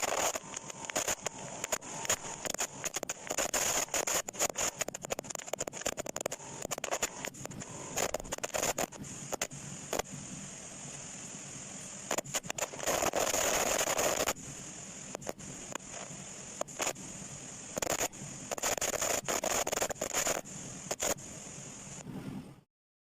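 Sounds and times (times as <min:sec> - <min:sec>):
sharp crackles and pops: 0:00.0 - 0:22.0
static hiss: 0:00.0 - 0:22.7.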